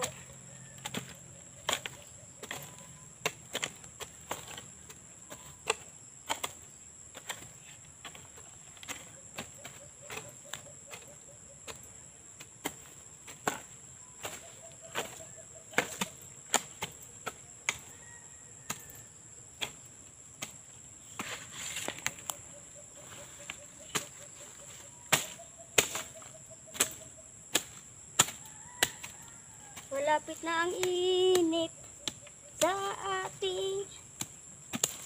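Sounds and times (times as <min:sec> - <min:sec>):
hoes chopping into soil: 0:00.0 - 0:35.0.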